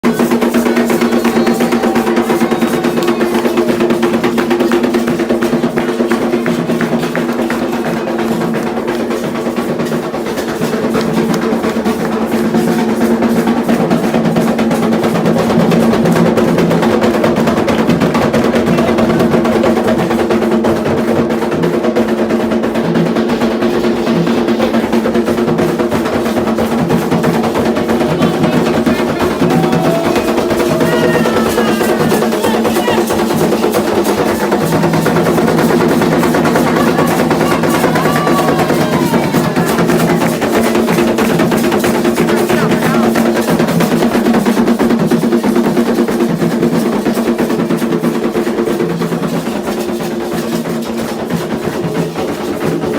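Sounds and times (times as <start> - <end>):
hand drums in fast rhythm: 0.0 - 52.9.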